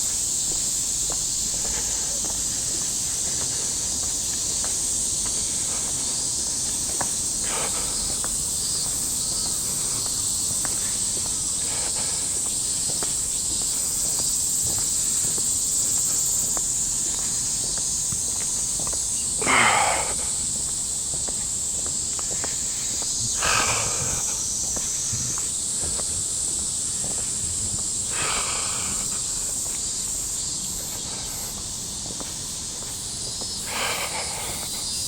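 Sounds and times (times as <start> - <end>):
cicadas chorus: 0.0 - 35.0
faint footsteps: 0.0 - 35.0.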